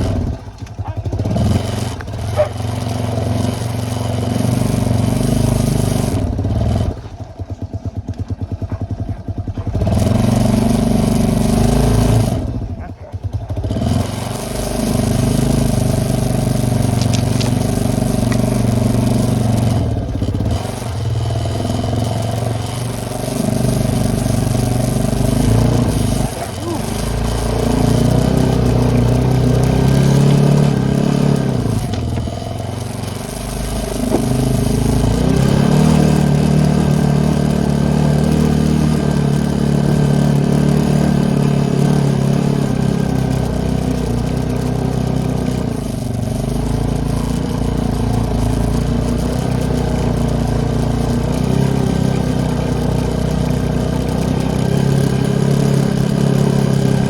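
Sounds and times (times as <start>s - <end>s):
atv engine under throttle: 0.0s - 57.0s.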